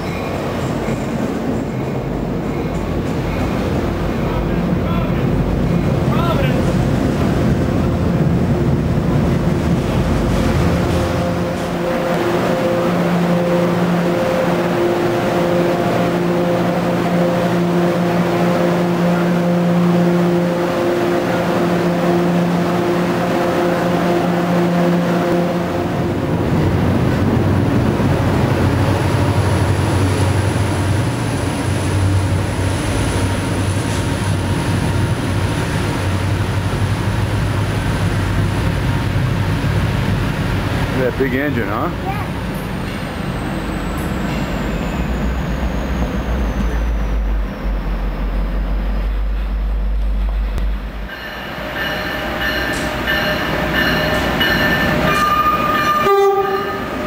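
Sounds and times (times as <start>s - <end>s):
diesel locomotive engine rumble: 0.0s - 57.0s
train engine hum with tones: 0.0s - 57.0s.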